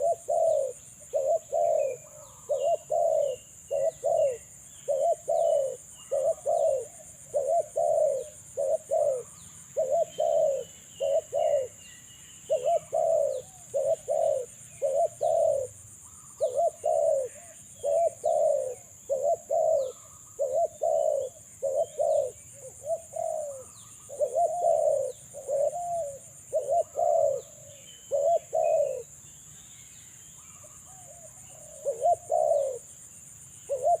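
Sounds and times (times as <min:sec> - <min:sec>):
dove cooing: 0:00.0 - 0:11.8, 0:12.5 - 0:29.2, 0:30.4 - 0:32.9, 0:33.7 - 0:34.0
small birds chirping: 0:00.0 - 0:34.0.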